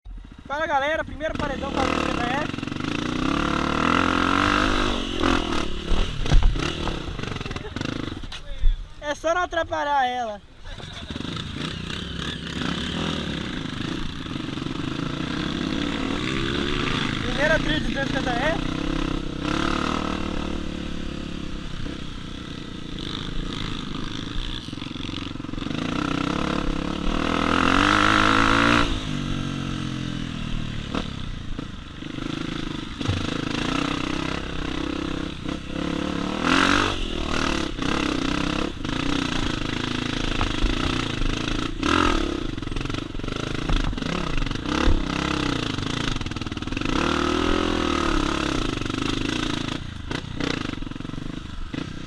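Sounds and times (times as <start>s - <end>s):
dirt bike engine revving: 0.1s - 8.3s, 9.2s - 52.0s.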